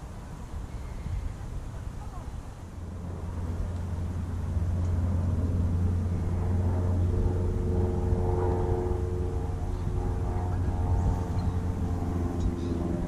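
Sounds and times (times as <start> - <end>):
distant engine drone: 0.0 - 13.0
low wind rumble: 0.0 - 13.0.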